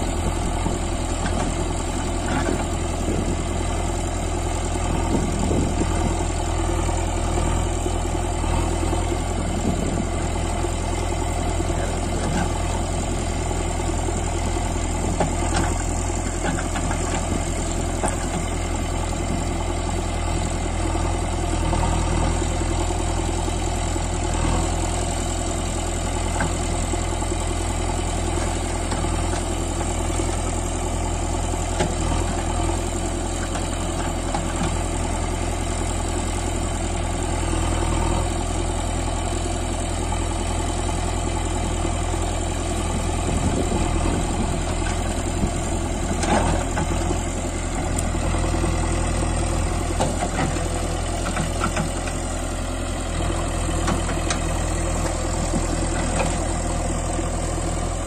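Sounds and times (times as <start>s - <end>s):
backhoe digging soil: 0.0s - 58.0s
diesel engine running: 0.0s - 58.0s.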